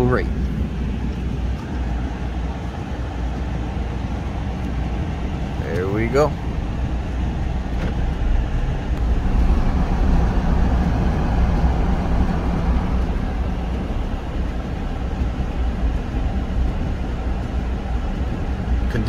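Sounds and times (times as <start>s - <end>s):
road and engine noise in cab: 0.0s - 19.0s.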